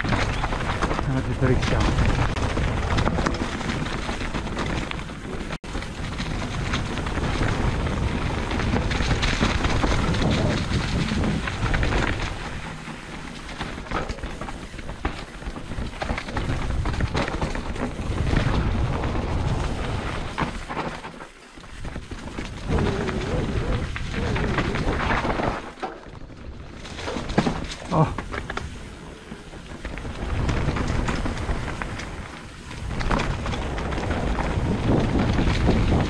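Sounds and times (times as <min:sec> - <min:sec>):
wind buffeting microphone: 0:00.0 - 0:21.0, 0:21.6 - 0:25.6, 0:26.2 - 0:36.0
rattling clatter over rough ground: 0:00.0 - 0:36.0.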